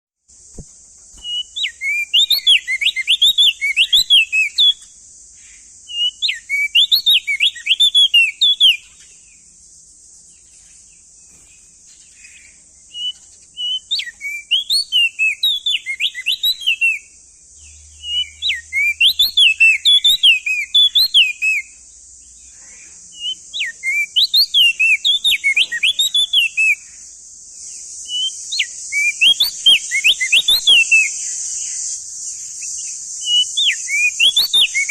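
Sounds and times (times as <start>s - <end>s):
steady high hiss: 0.2s - 34.9s
bird fast jumbled chirping: 0.5s - 34.9s.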